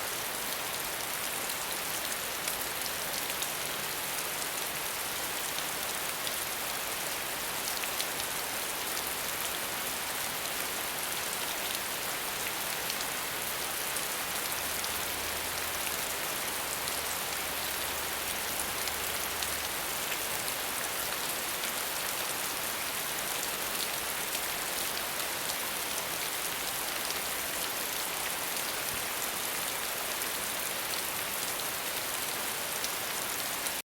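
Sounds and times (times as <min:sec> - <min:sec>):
rain on a hard surface: 0:00.0 - 0:33.8.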